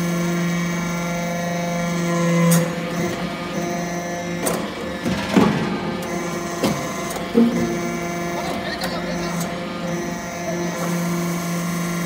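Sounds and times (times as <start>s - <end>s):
hydraulic press humming: 0.0s - 12.0s.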